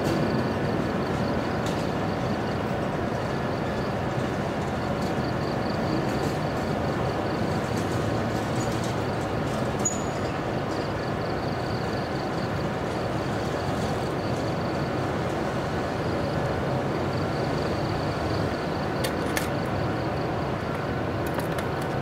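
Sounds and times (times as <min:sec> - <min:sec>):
rail yard rumbling: 0:00.0 - 0:22.0.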